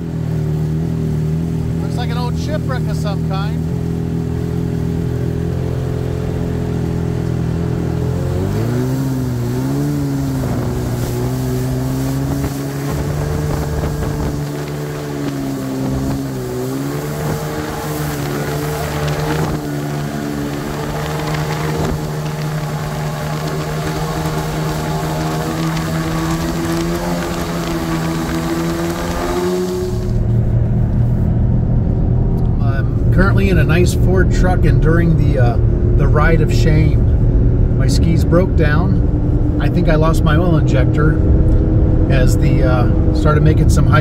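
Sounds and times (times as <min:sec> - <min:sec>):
jet ski engine running: 0:00.0 - 0:44.0.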